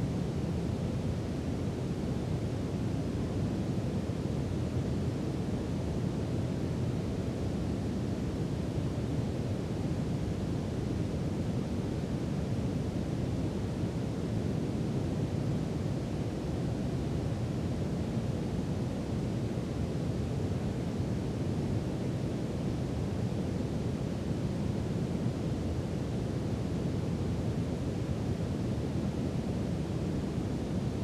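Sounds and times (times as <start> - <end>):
brown noise hiss: 0.0 - 31.0.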